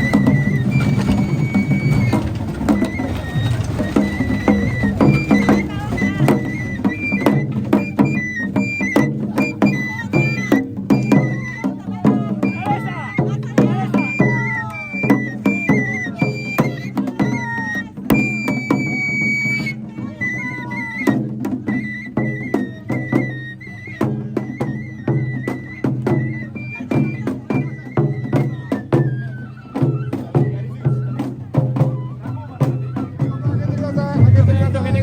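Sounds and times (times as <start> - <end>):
drum and percussion strikes: 0.0 - 35.0
high flute melody: 0.0 - 35.0.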